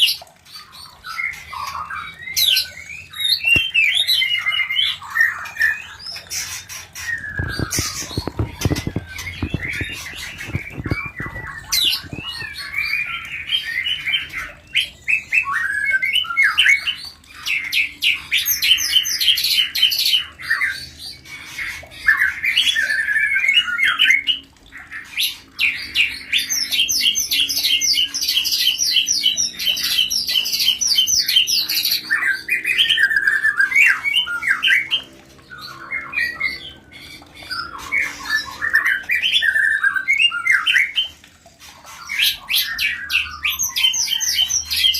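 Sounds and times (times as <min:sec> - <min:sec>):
birds chattering with trills: 0:00.0 - 0:44.9.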